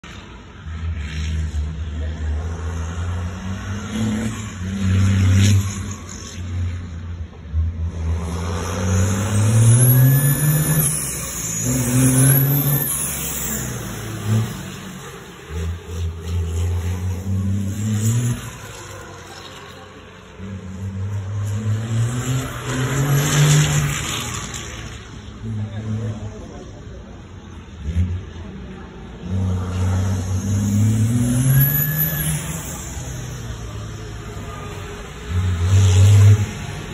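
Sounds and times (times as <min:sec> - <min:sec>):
racing truck engine accelerating: 0:00.0 - 0:36.9.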